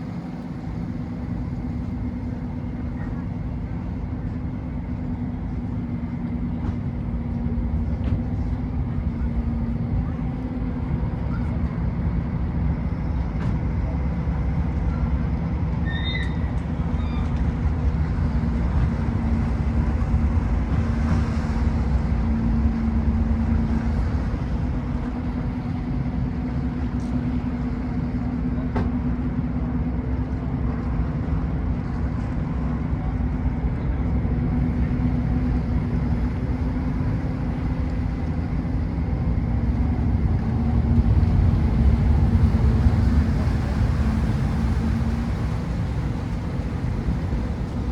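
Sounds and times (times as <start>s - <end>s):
ferry engines droning: 0.0s - 47.9s.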